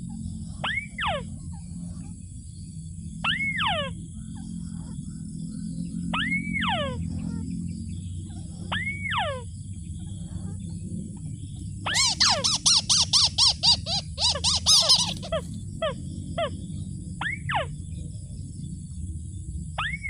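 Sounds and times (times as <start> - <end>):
rail bird calls: 0.0 - 18.7, 19.8 - 20.0.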